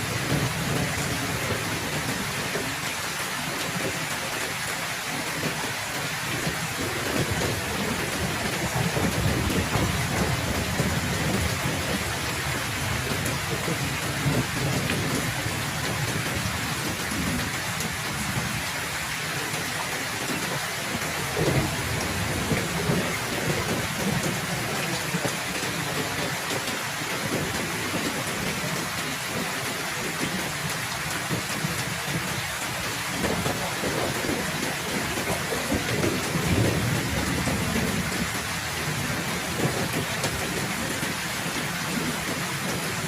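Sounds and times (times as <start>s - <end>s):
low rolling thunder: 0.0s - 2.8s, 5.4s - 43.0s
heavy rain falling: 0.0s - 43.0s.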